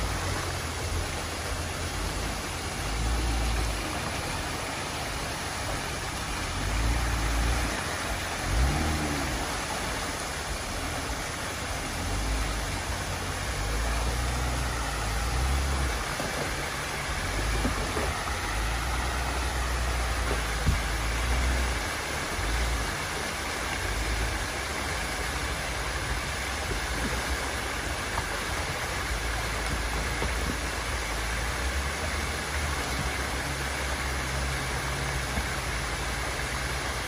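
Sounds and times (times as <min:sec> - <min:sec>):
car engine rumble: 0:00.0 - 0:37.0
water cascading over rocks: 0:00.0 - 0:37.0.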